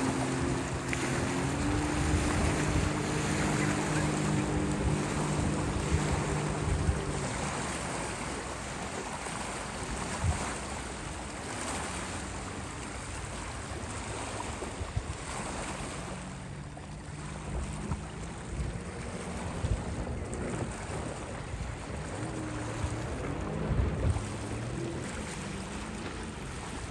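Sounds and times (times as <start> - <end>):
distant jet ski engine humming: 0.0 - 26.9
wind and water wash: 0.0 - 26.9.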